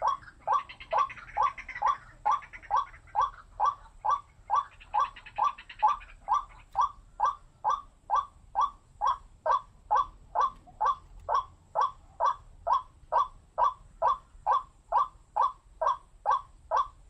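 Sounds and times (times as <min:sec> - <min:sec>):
waterhen wak call: 0:00.0 - 0:17.0.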